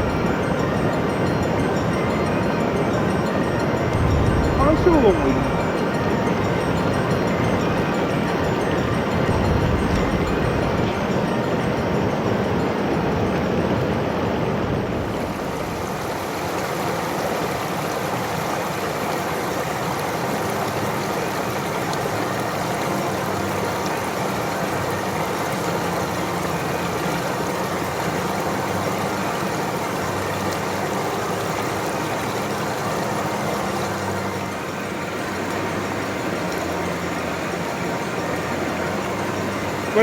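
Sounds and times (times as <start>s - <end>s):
stream rushing over rocks: 0.0s - 13.8s, 14.4s - 40.0s.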